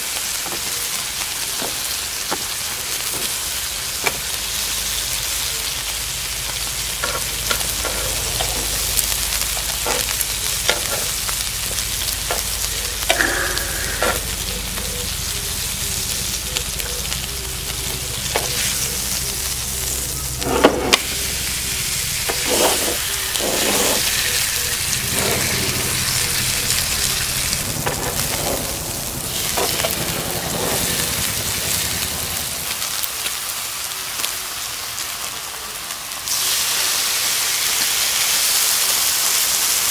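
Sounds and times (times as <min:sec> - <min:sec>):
steak sizzling on griddle: 0:00.0 - 0:39.9.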